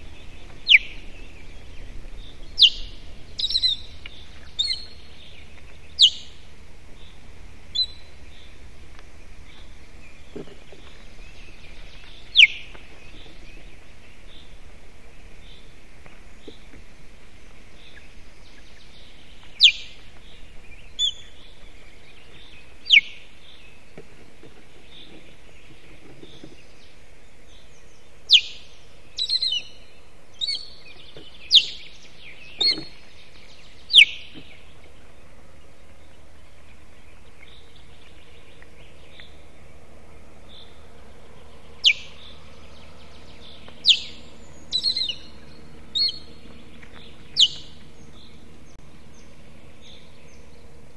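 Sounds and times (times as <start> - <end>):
steady low hiss: 0.0 - 50.9.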